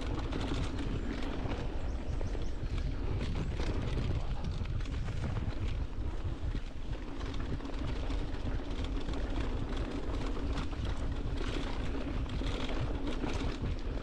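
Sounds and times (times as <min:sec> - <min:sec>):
bike rattling: 0:00.0 - 0:14.0
bike tyres crunching on dirt: 0:00.0 - 0:14.0
wind buffeting camera: 0:00.0 - 0:14.0.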